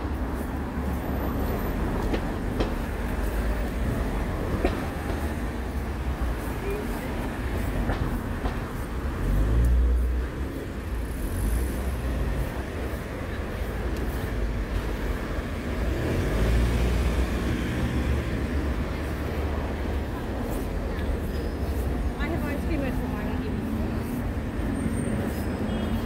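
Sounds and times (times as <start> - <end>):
rumble of passing traffic: 0.0 - 26.0.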